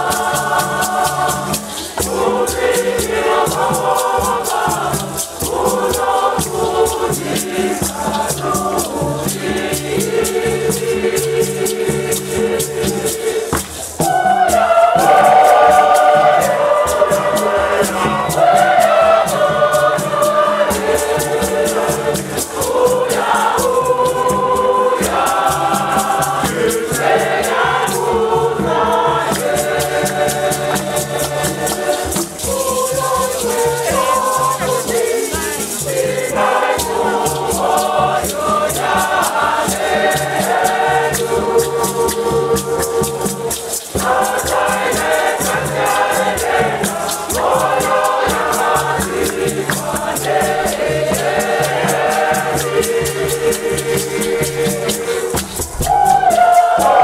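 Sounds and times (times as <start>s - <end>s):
choir singing in harmony: 0.0s - 57.0s
hand drums beating: 0.0s - 57.0s
rattles shaking: 0.0s - 57.0s.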